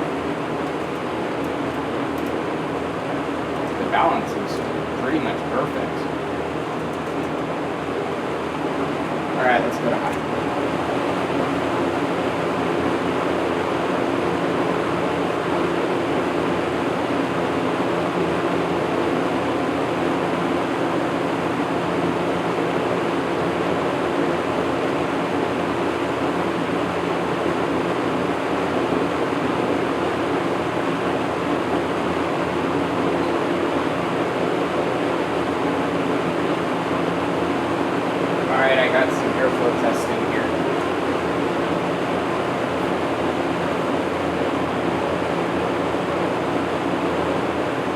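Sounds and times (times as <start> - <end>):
box fan running: 0.0 - 47.9.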